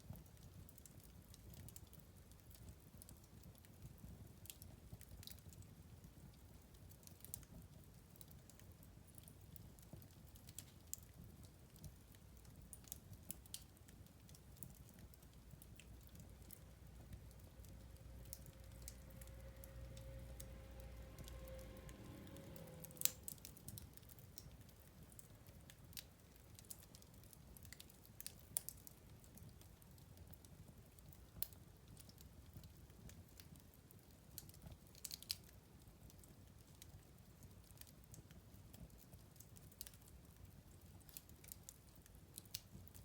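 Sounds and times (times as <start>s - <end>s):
low rumble of fire: 0.0s - 43.0s
wood fire crackling: 0.0s - 43.0s.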